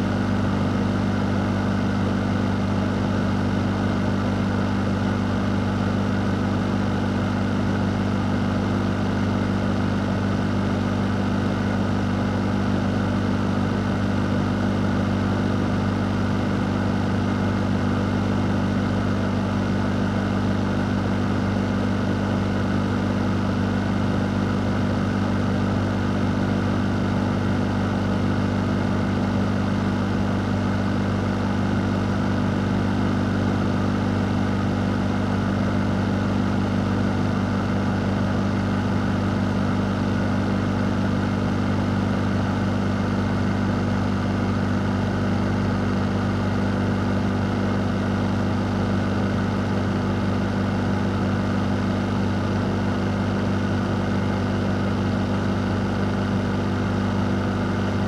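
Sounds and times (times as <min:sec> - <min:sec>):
fan running: 0:01.4 - 0:58.0.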